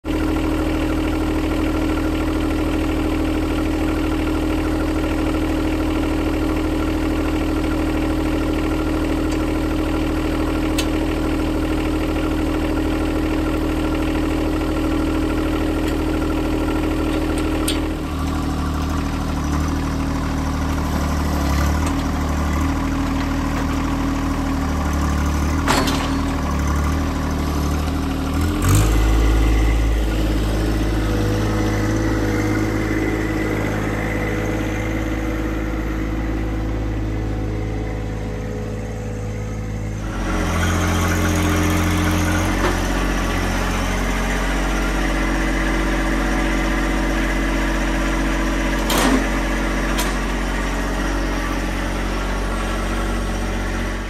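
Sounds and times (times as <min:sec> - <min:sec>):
diesel tractor engine idling: 0:00.1 - 0:54.0.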